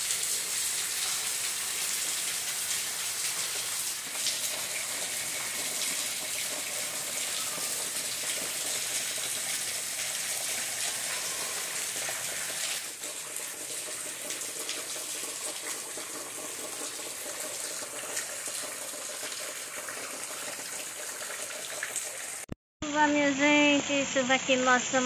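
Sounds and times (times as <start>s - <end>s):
rain falling: 0.0s - 22.5s.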